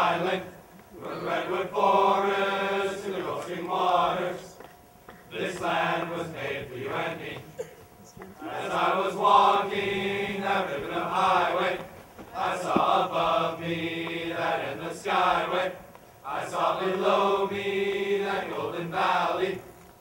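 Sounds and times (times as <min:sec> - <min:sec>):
mixed choir singing unaccompanied: 0:00.0 - 0:04.6, 0:05.3 - 0:07.7, 0:08.4 - 0:19.8.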